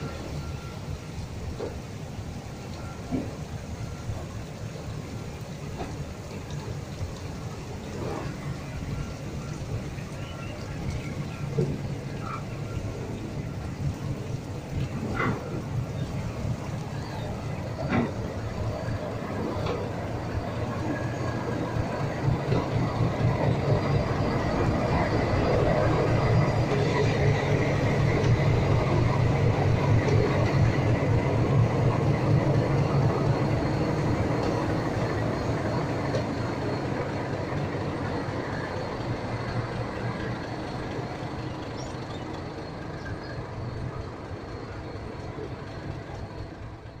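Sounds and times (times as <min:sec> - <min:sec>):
diesel locomotive passing: 0:00.0 - 0:47.0.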